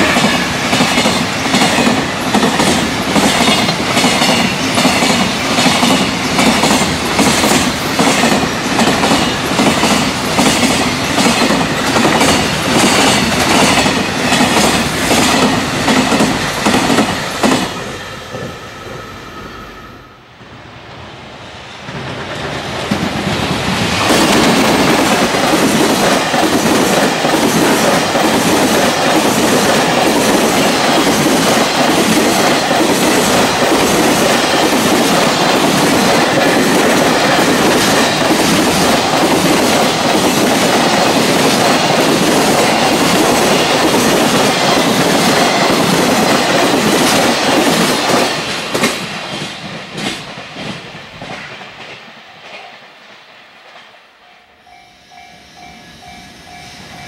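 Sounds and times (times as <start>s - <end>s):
train wheels clacking over rails: 0.0s - 19.1s, 21.8s - 54.0s.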